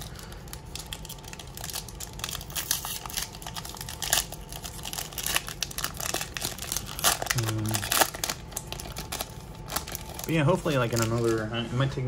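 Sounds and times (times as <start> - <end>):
foil wrapper crinkling: 0.0 - 11.6.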